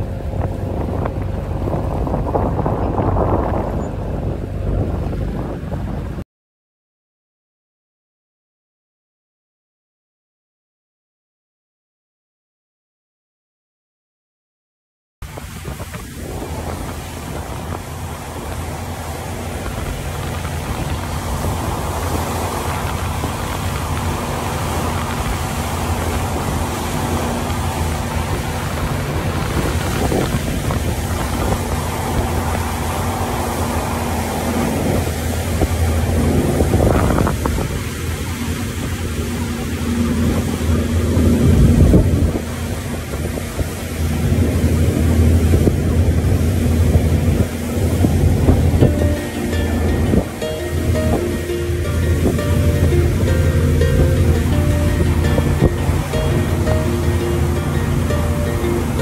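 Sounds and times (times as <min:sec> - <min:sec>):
boat engine drone: 0:00.0 - 0:06.2, 0:15.2 - 0:59.0
rushing water: 0:00.0 - 0:06.2, 0:15.2 - 0:59.0
wind buffeting microphone: 0:00.0 - 0:06.2, 0:15.2 - 0:59.0.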